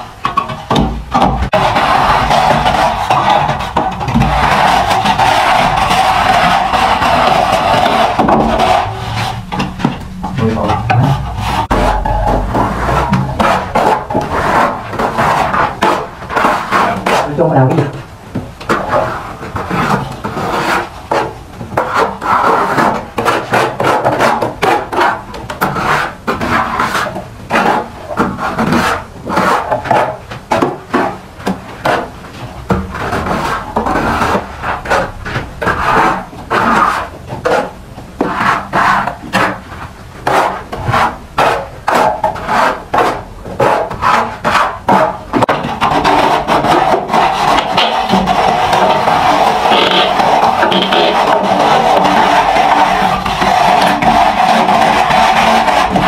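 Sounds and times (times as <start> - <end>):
trowel scraping wet cement: 1.2 - 17.9, 18.8 - 39.6, 40.2 - 56.0.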